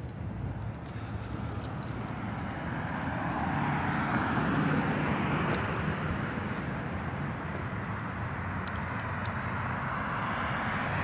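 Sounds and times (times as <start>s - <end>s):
vehicle tyres and road noise: 0.0s - 11.0s.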